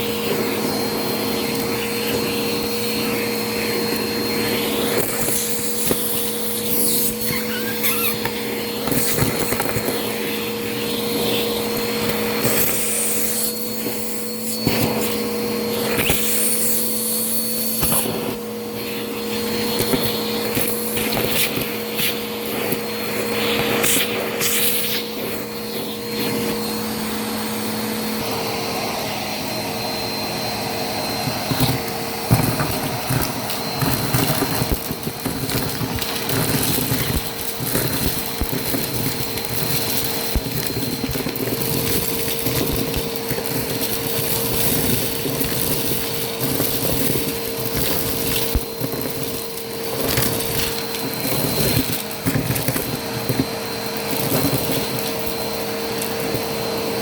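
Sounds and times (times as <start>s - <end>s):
debris rattling in vacuum: 0.0s - 57.0s
vacuum cleaner motor whine: 0.0s - 57.0s.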